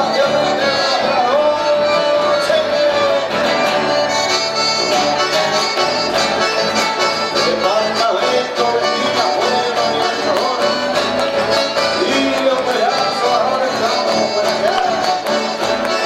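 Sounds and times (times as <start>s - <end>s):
accordions playing: 0.0s - 16.0s
strummed acoustic guitars: 0.0s - 16.0s.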